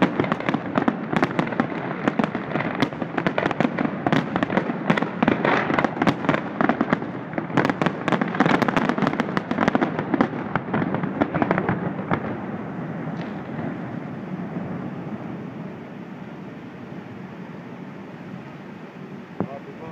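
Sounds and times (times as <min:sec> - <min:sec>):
fireworks banging and crackling: 0:00.0 - 0:19.9.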